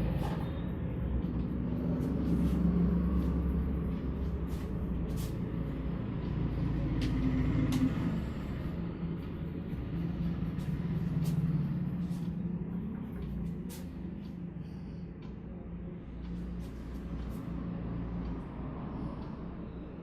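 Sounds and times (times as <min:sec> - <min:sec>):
low background drone: 0:00.0 - 0:20.0.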